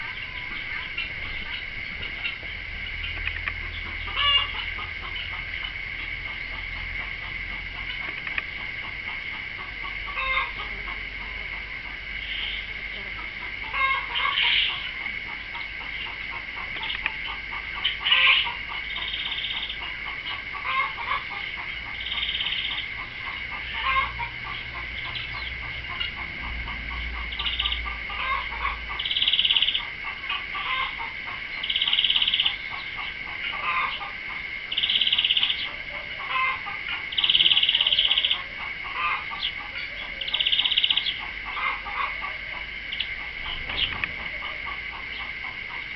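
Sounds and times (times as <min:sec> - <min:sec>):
birds calling: 0:00.0 - 0:45.9
high-pitched drone: 0:00.0 - 0:45.9.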